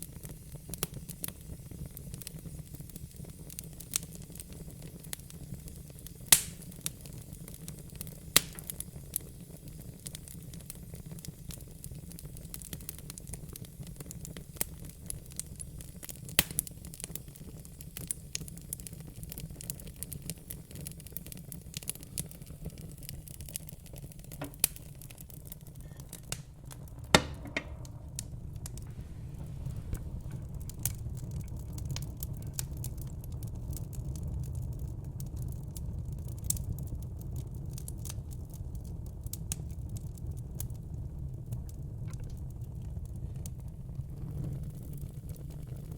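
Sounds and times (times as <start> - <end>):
low fire rumble: 0.0 - 45.9
wood fire crackling: 0.0 - 45.9.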